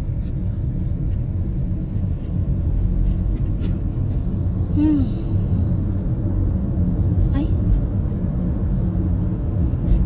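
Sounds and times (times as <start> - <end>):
car driving low rumble: 0.0 - 10.0.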